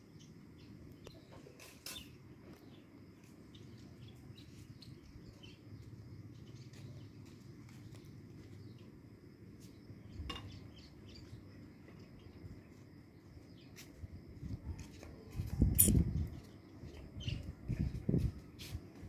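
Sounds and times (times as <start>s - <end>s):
faint bird chirps: 0.0s - 7.3s, 9.7s - 18.6s.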